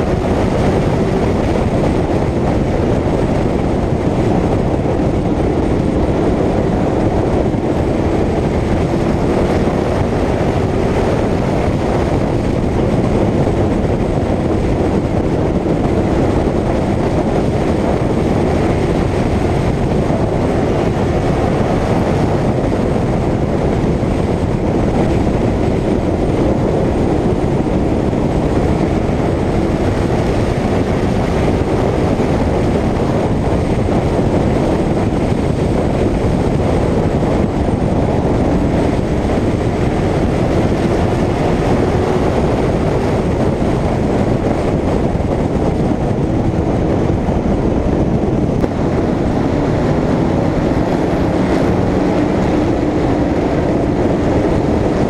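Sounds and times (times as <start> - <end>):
stock car engine at racing speed: 0.0 - 55.0
wind and road noise: 0.0 - 55.0.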